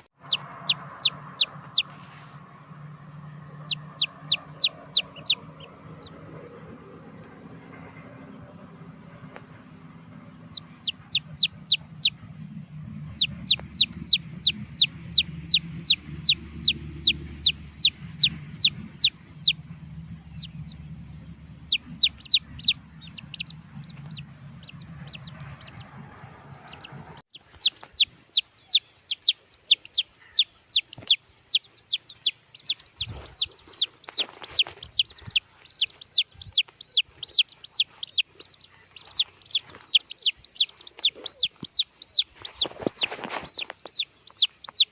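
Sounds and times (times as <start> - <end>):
chicks peeping: 0.0 - 8.0, 9.2 - 44.9
low hum: 0.0 - 43.2.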